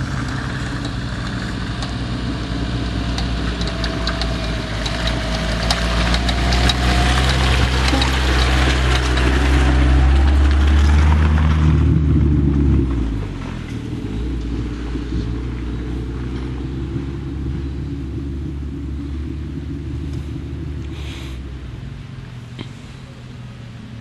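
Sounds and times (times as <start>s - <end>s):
off-road vehicle engine running: 0.0s - 24.0s
tyres in mud: 0.0s - 24.0s.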